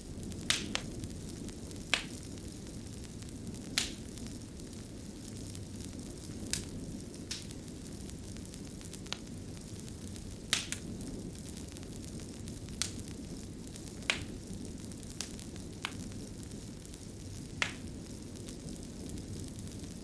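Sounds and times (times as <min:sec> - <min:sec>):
fire crackling with sharp pops: 0:00.0 - 0:20.0.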